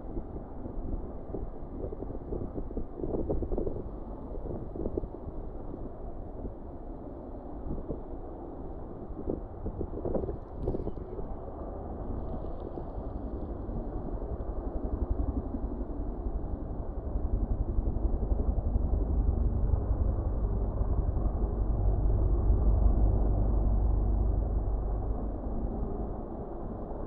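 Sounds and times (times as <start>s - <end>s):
helicopter rotor and engine: 0.0s - 27.0s.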